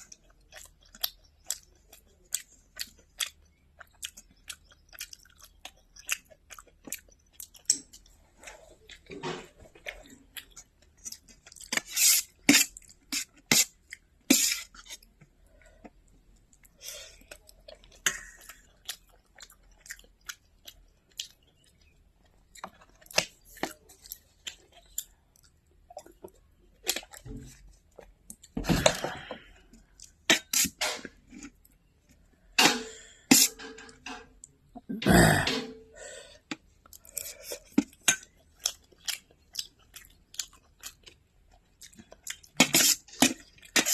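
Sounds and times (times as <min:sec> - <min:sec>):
person chewing: 0:00.0 - 0:43.9.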